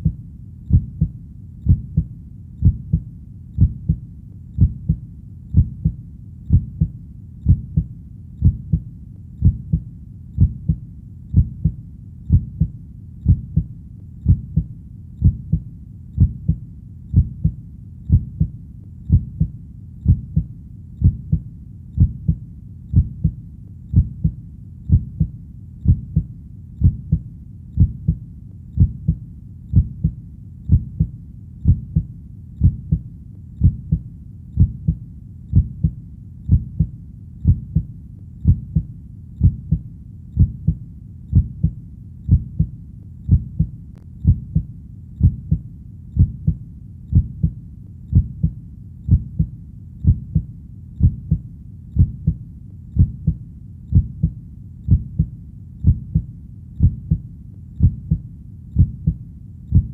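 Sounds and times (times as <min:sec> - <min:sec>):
heartbeat thumping: 0:00.0 - 0:04.0, 0:04.6 - 0:59.9.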